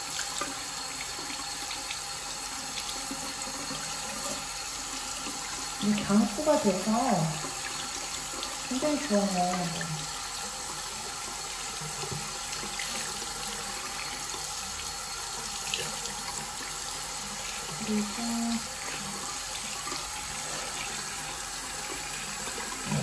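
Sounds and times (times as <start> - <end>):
tap water running into sink: 0.0 - 23.0.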